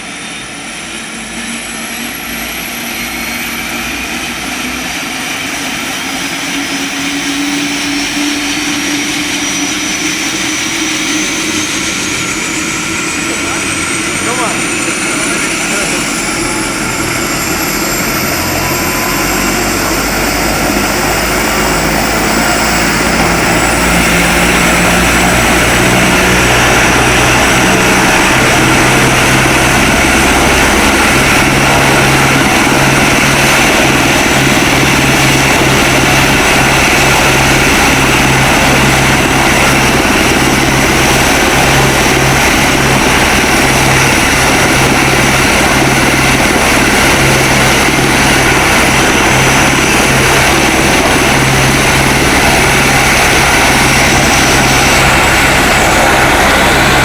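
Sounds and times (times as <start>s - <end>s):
helicopter rotor blades beating: 0.0s - 57.0s
helicopter turbine whine and roar: 0.0s - 57.0s.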